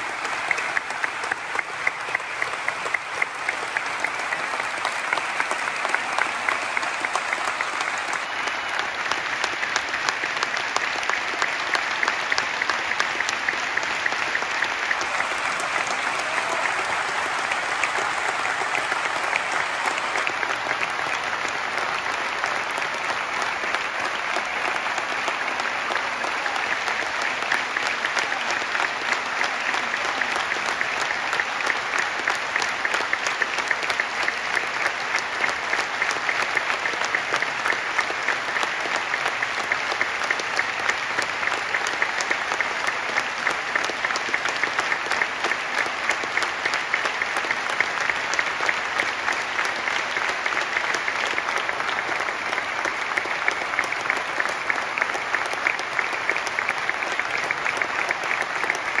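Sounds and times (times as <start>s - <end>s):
large crowd applauding: 0.0s - 59.0s.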